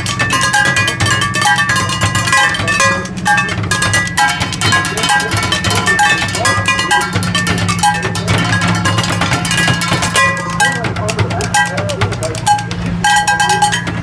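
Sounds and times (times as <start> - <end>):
drumming on plastic jugs: 0.0 - 14.0
metal pans struck ringing: 0.0 - 14.0.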